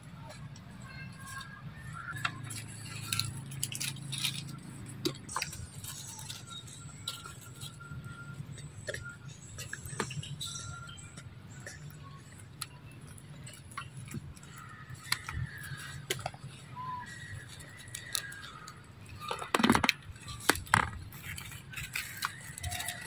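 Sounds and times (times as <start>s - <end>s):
rustling and crackling in dry leaves: 0.2s - 11.1s, 11.7s - 23.0s.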